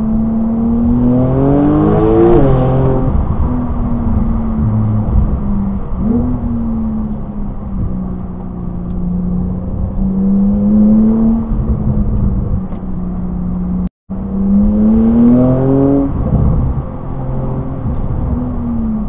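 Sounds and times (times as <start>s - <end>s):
car engine revving: 0.0s - 19.0s
tyre and road noise: 0.0s - 19.0s.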